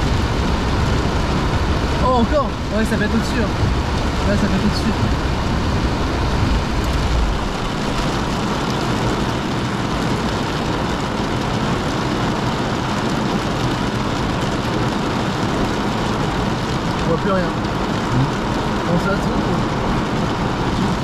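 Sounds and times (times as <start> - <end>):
heavy rain on car roof: 0.0 - 21.0.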